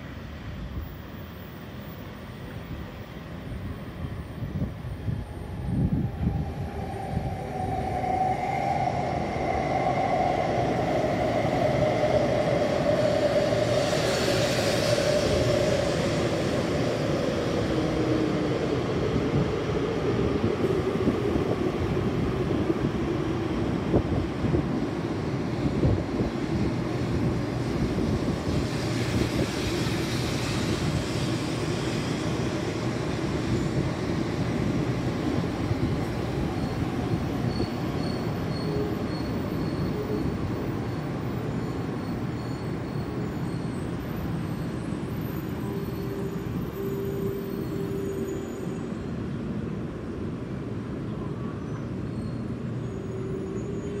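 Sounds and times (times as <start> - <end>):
train wheels rumbling: 5.0 - 49.7.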